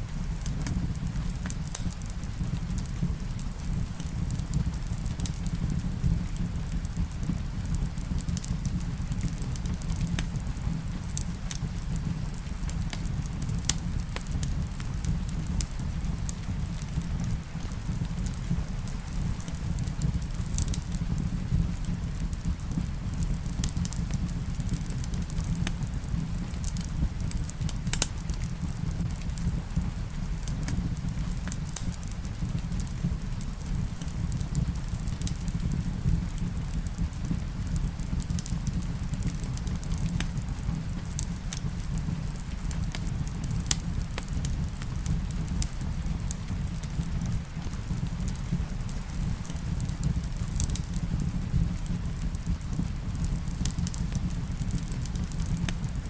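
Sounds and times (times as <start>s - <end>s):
fireplace crackling: 0.0s - 56.0s
soft hiss of rain: 0.0s - 56.0s
steady low rumble: 0.0s - 56.0s
sharp pops of fire: 0.2s - 56.0s.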